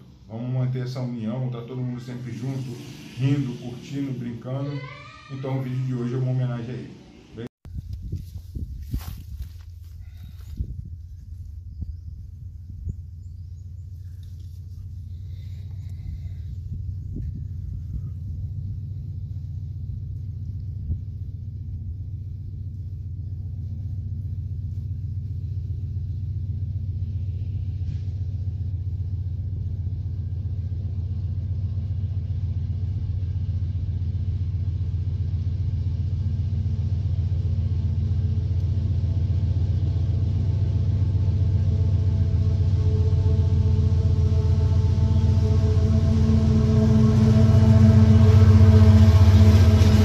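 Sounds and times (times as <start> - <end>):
diesel locomotive rumble: 0.0 - 50.0.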